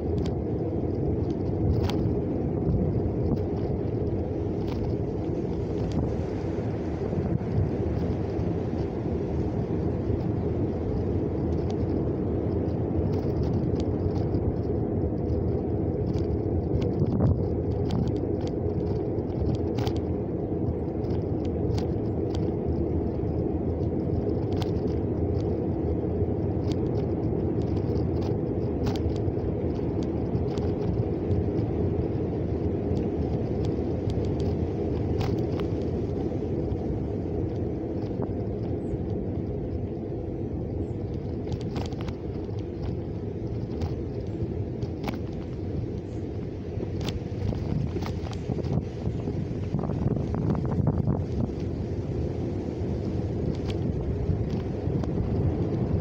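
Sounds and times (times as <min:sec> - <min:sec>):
vehicle road and tyre rumble: 0:00.0 - 0:56.0.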